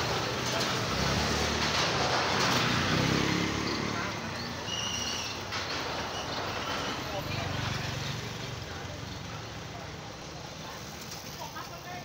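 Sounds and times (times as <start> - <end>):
motorbike traffic: 0.0 - 12.0
voices: 0.0 - 12.0.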